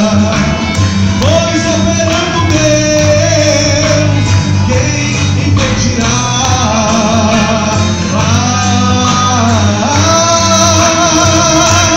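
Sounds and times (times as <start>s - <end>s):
amplified instrumental accompaniment: 0.0s - 11.9s
man singing gospel song: 0.0s - 11.9s.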